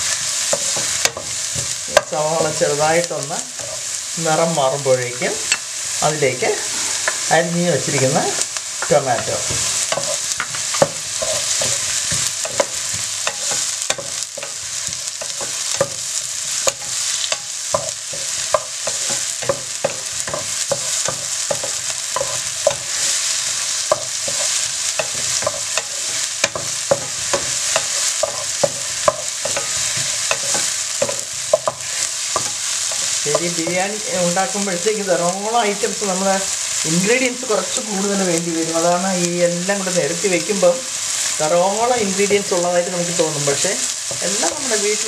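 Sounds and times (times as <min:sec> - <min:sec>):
onions sizzling in hot oil: 0:00.0 - 0:45.0.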